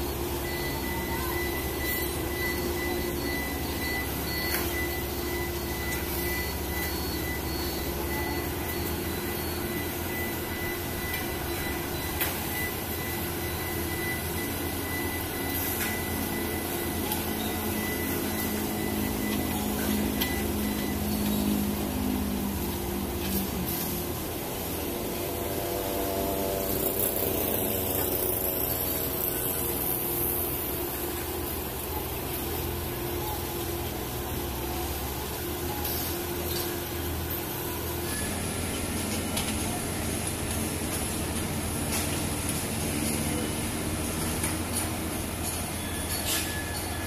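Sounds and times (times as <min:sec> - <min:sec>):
diesel engine drone: 0:00.0 - 0:47.0
thin high steady tone: 0:00.0 - 0:47.0.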